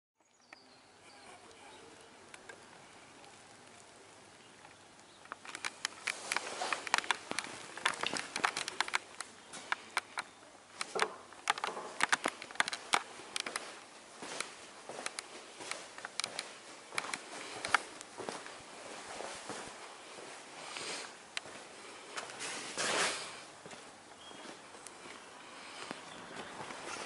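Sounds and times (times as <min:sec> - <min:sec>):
faint room noise: 0:00.2 - 0:27.0.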